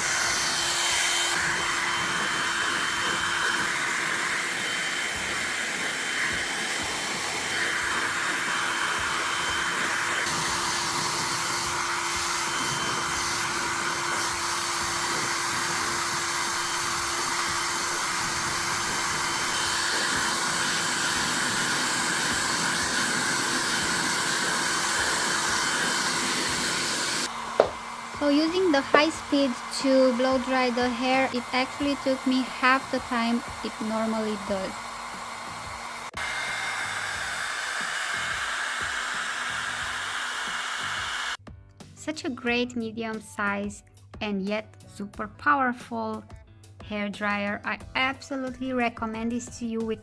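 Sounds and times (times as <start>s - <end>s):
hair dryer blowing: 0.0s - 41.4s.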